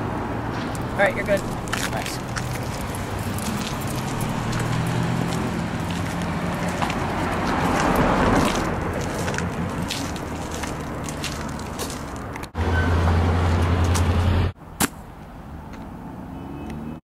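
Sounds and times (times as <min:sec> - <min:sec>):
vehicle humming: 0:00.0 - 0:17.0.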